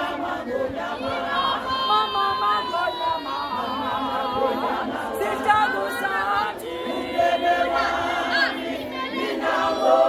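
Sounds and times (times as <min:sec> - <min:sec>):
women singing in chorus: 0:00.0 - 0:10.0.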